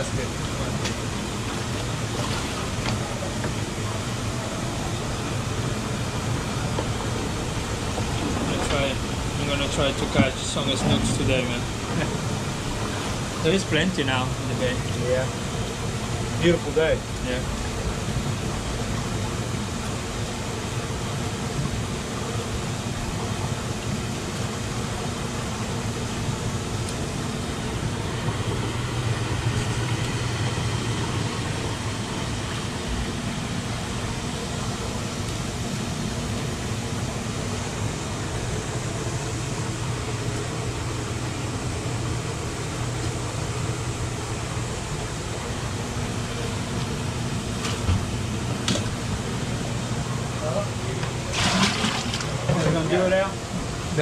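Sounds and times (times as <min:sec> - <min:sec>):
bubbling water: 0:00.0 - 0:50.4, 0:51.2 - 0:52.5
pump electric hum: 0:00.0 - 0:54.0.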